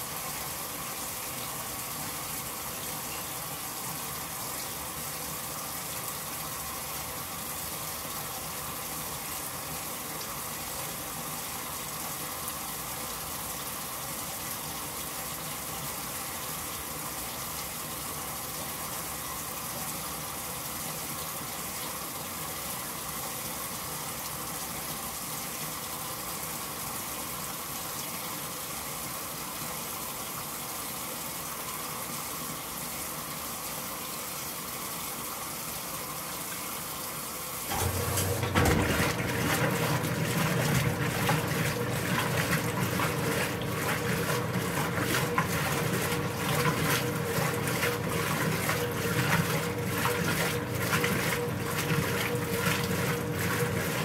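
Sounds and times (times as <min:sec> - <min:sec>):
water gushing into washer tub: 0:00.0 - 0:31.7, 0:35.7 - 0:54.0.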